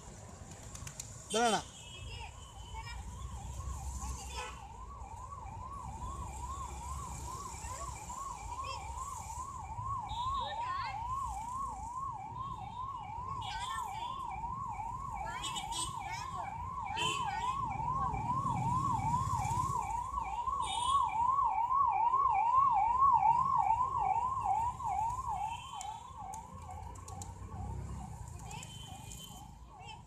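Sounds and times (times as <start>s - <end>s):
siren yelping: 2.3s - 30.0s.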